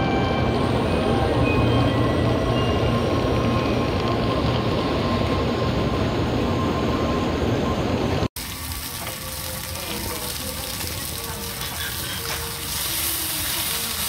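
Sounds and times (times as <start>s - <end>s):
train rumble with whine: 0.0s - 14.0s.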